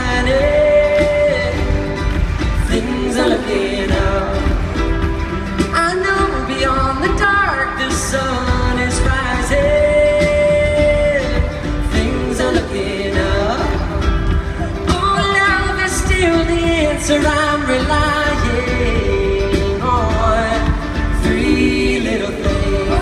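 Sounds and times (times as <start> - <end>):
live pop band playing: 0.0 - 23.0
person singing: 0.0 - 23.0.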